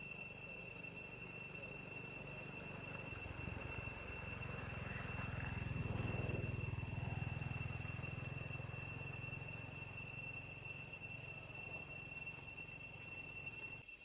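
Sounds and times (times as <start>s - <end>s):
crickets droning: 0.0s - 14.0s.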